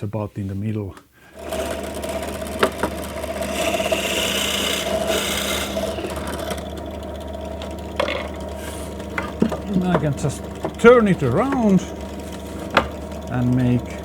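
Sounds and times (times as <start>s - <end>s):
electric drill boring into wood: 1.4s - 14.0s.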